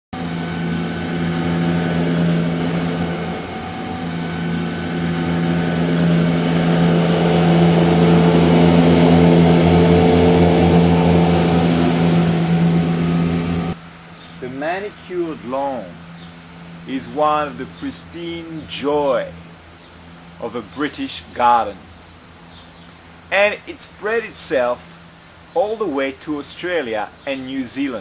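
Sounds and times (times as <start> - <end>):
engine running steadily: 0.1 - 28.0.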